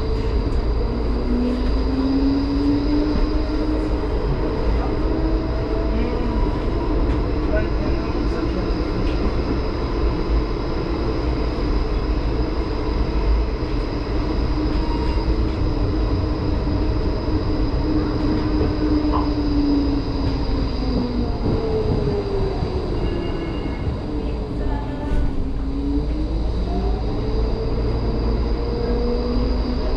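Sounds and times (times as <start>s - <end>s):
tram wheels rumbling on rail: 0.0s - 29.9s.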